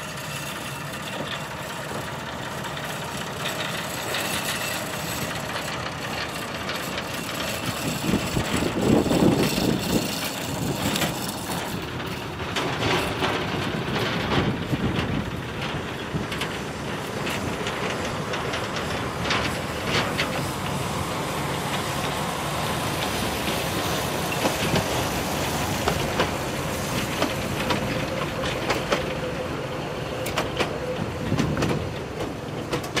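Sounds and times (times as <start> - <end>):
diesel locomotive running: 0.0 - 33.0
wheels clicking on track: 0.0 - 33.0.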